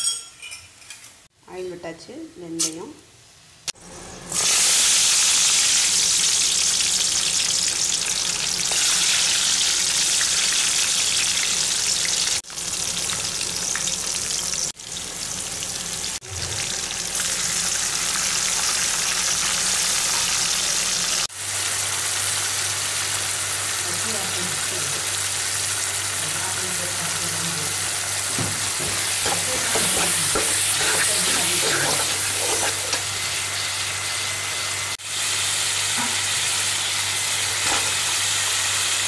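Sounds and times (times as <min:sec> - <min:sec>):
hot oil sizzling: 0:03.4 - 0:39.0.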